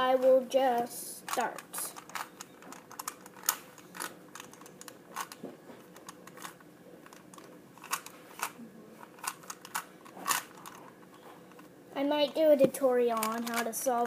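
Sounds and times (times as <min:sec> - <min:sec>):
puzzle cube plastic clicking: 0:01.3 - 0:11.2, 0:12.6 - 0:14.0.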